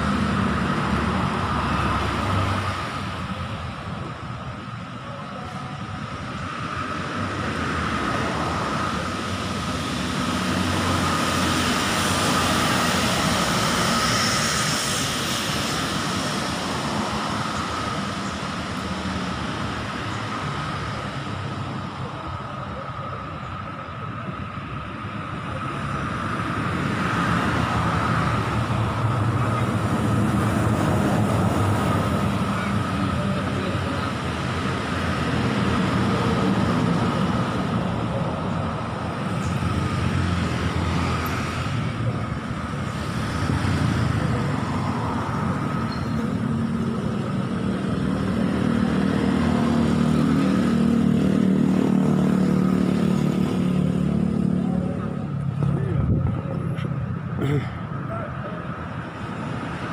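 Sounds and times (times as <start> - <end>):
road traffic passing: 0.0 - 59.9.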